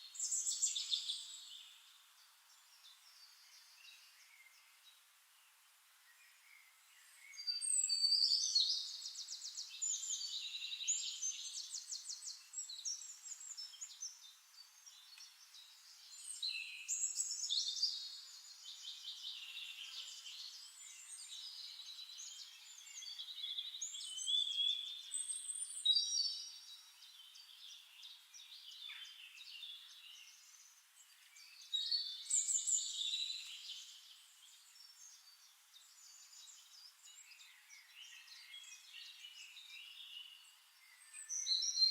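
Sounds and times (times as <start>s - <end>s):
quiet bird chirping: 0.0s - 41.9s.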